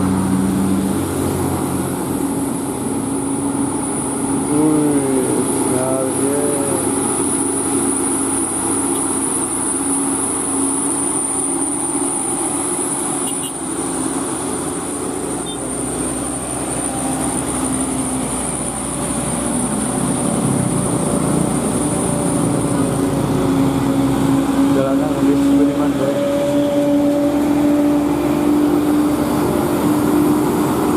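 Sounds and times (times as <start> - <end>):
heavy diesel engine under load: 0.0 - 30.9
high-pitched whine: 0.0 - 30.9.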